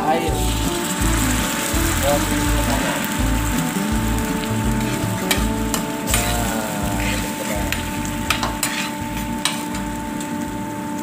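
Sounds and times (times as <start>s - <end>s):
steady hum: 0.0s - 11.0s
sauce simmering in a pan: 0.3s - 10.8s.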